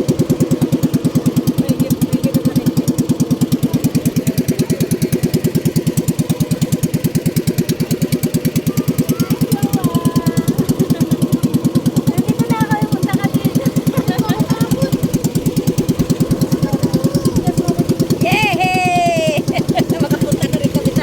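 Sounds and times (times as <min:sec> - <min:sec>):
small engine idling: 0:00.0 - 0:21.0.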